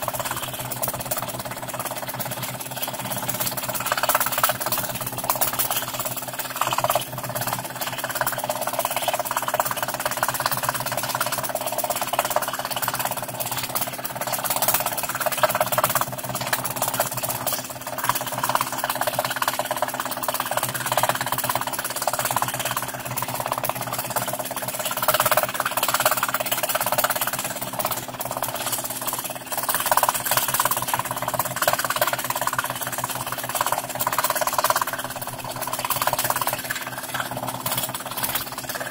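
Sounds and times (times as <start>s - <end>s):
motor hum: 0.0s - 38.9s.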